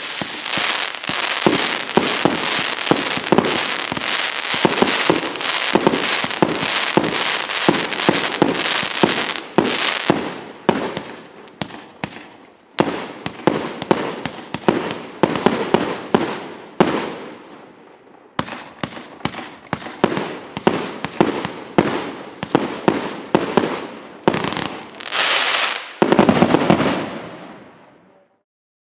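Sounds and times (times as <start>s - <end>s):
firework battery shots and bursts: 0.0s - 17.1s, 18.4s - 27.3s.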